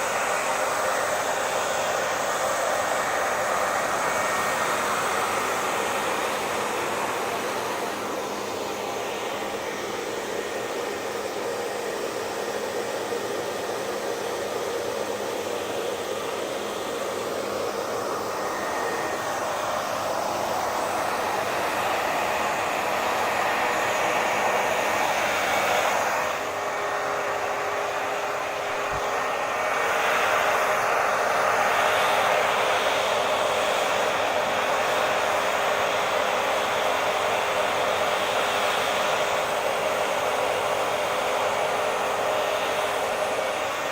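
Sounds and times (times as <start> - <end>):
hair dryer running: 0.0 - 43.9.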